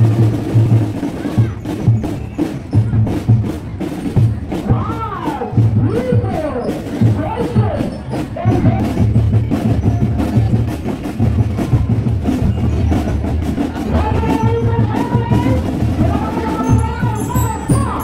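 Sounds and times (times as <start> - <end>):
marching drum beat: 0.0 - 18.0.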